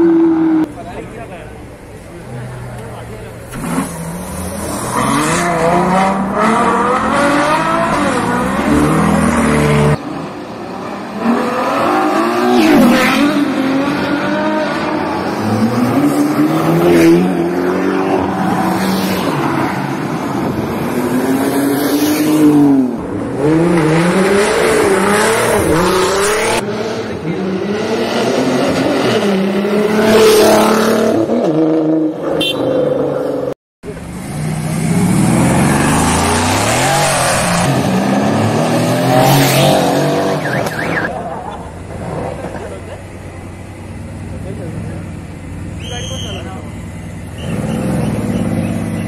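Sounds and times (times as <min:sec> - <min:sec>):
sports car engines revving: 0:00.0 - 0:49.0.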